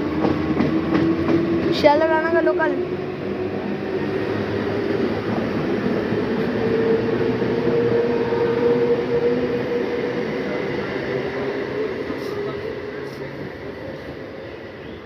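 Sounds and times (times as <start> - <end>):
train wheels rumbling on rail: 0.0 - 15.0
train whine: 0.0 - 15.0.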